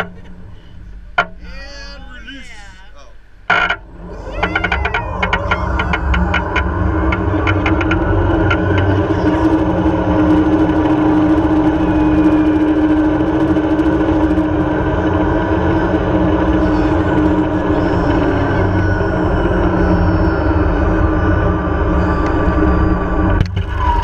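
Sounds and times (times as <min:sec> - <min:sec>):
zipline trolley whine on cable: 0:00.0 - 0:24.0
wind buffeting microphone: 0:03.8 - 0:23.7.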